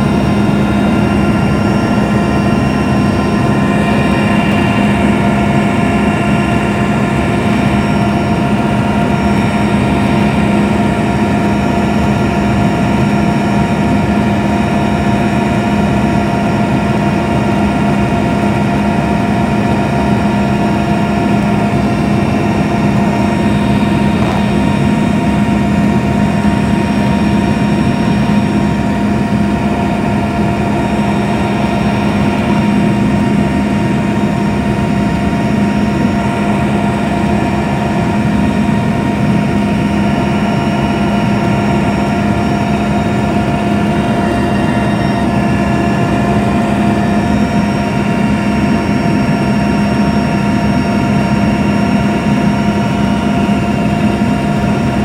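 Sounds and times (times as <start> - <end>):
constant whining tones: 0.0 - 55.0
helicopter engine and rotor drone: 0.0 - 55.0.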